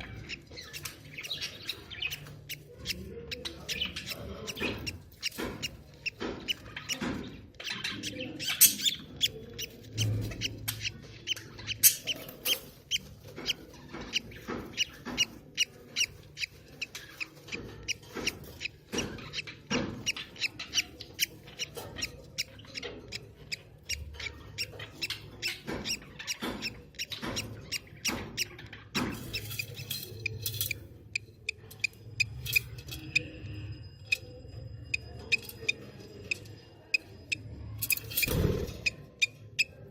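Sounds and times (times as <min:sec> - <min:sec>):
budgerigar chicks cheeping: 0:00.0 - 0:39.9.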